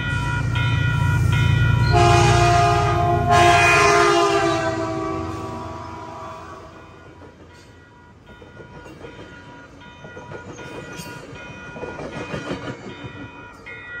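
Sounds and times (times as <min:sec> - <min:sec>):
crossing warning bell ringing: 0:00.0 - 0:14.0
train rolling past: 0:00.0 - 0:14.0.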